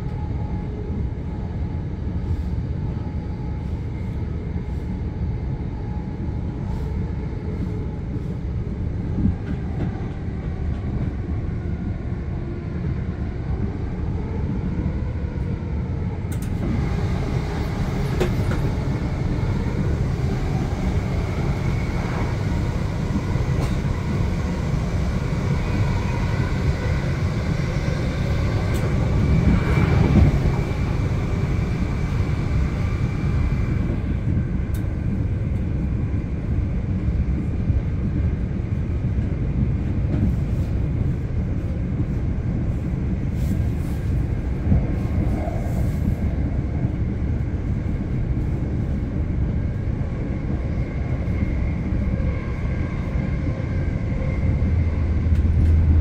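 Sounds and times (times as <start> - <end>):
train rumble inside coach: 0.0 - 56.0.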